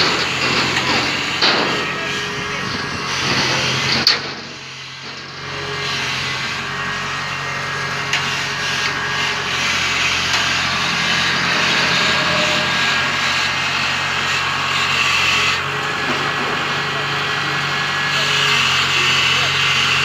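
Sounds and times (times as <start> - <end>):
combine harvester running: 0.0 - 20.0.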